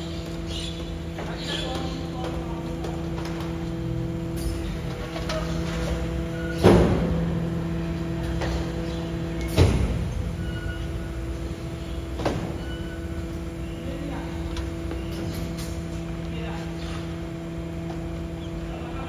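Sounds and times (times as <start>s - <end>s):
hydraulic compactor humming: 0.0s - 19.0s.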